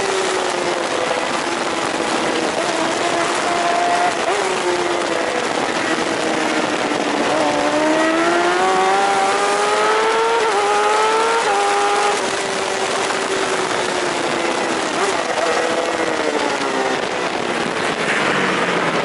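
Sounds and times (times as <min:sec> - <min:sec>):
motorcycle engine revving: 0:00.0 - 0:19.0
wind rushing: 0:00.0 - 0:19.0.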